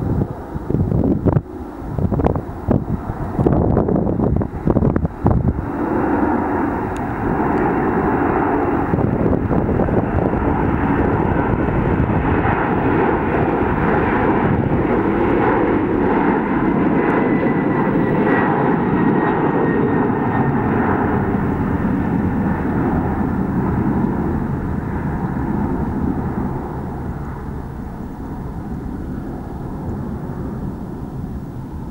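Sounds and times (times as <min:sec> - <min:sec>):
faint high whine: 0:00.0 - 0:31.9
jet engines roaring: 0:00.0 - 0:31.9.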